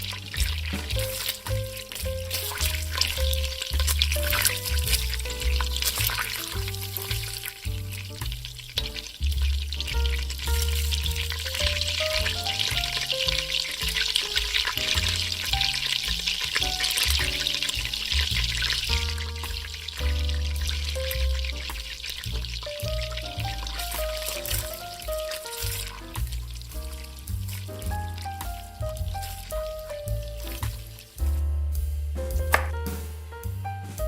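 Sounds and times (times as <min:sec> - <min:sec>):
food sizzling in a pan: 0:00.0 - 0:33.2
background music: 0:00.0 - 0:34.0.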